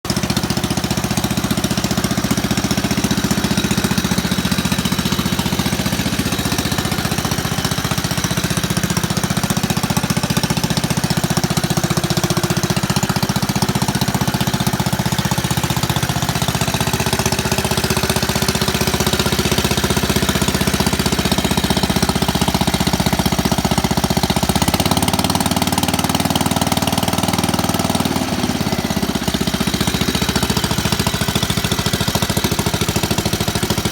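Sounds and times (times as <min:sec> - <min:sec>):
single-cylinder engine running: 0:00.0 - 0:33.9.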